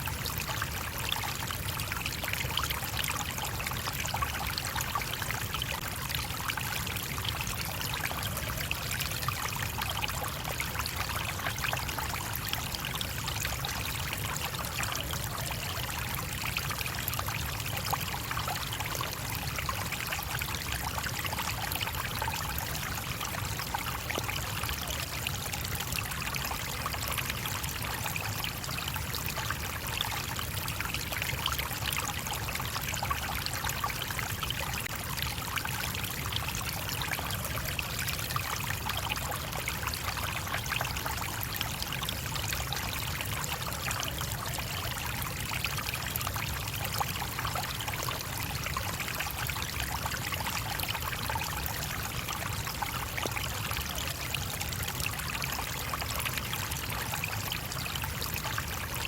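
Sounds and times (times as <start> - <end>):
stream burbling over stones: 0.0 - 59.0.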